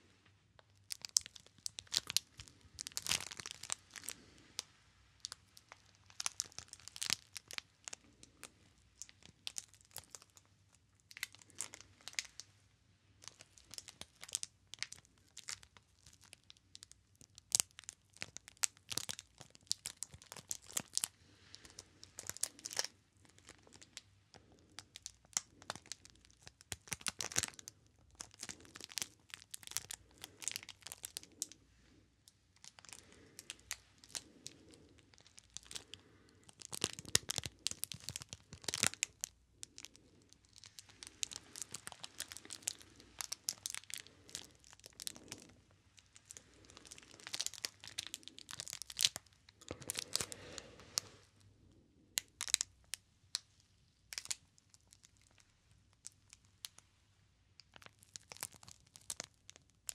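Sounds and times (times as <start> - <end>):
plastic wrapping crackling: 0.6 - 12.4, 13.2 - 31.6, 32.2 - 51.3, 52.2 - 56.8, 57.6 - 59.9.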